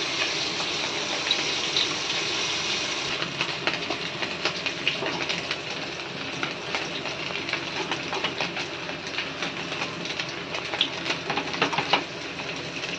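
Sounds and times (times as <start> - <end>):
fritters sizzling in hot oil: 0.0 - 12.9.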